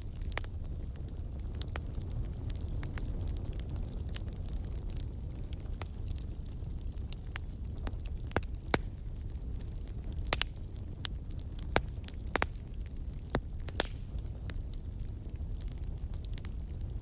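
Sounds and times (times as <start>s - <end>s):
fire crackling and popping: 0.0s - 17.0s
low rumble of fire: 0.0s - 17.0s.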